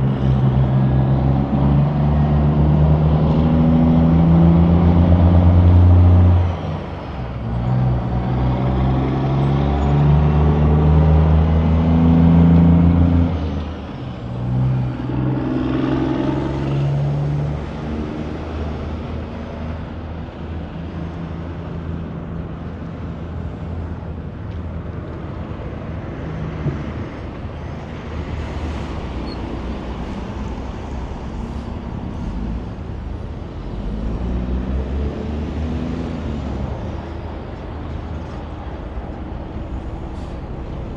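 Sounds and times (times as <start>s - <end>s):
truck engine passing: 0.0s - 22.8s, 24.9s - 40.9s
road and tyre noise: 0.0s - 40.9s.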